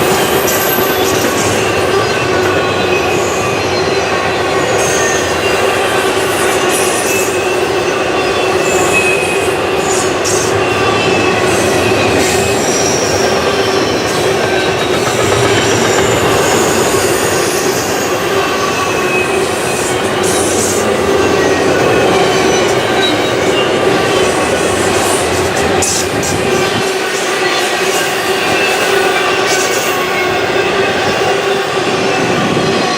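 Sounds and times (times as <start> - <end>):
freight train cars rolling: 0.0 - 32.9
train wheels squealing: 0.0 - 32.9.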